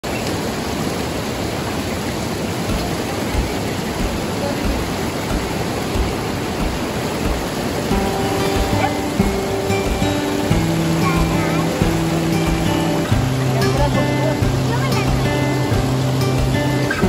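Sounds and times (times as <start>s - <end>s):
fast-flowing water rushing: 0.0s - 17.0s.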